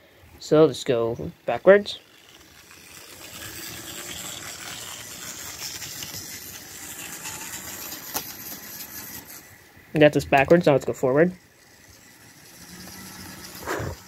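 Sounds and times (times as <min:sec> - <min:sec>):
model train motor whirring: 0:00.0 - 0:14.0.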